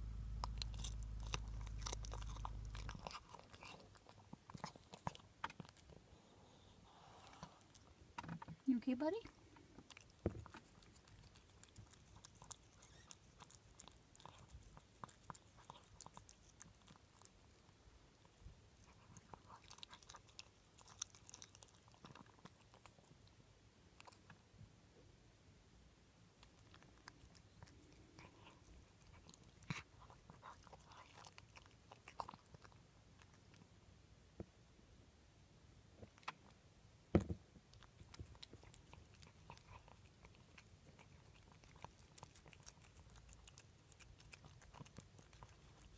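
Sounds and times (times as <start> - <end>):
pet crunching food: 0.0 - 24.5, 26.3 - 33.8, 37.2 - 45.9.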